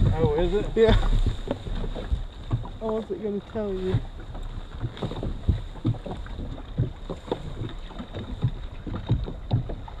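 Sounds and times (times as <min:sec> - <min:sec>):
water slapping boat hull: 0:00.0 - 0:10.0
wind on microphone: 0:00.0 - 0:10.0.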